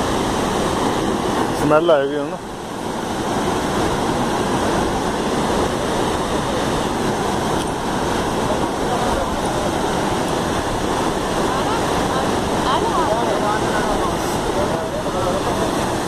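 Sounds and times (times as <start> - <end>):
spillway water rushing: 0.0 - 16.0.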